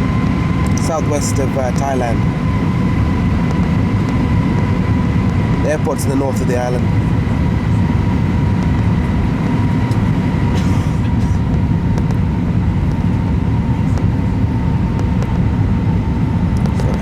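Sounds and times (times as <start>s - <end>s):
faint steady whine: 0.0s - 17.0s
low rumble of engines and airflow: 0.0s - 17.0s.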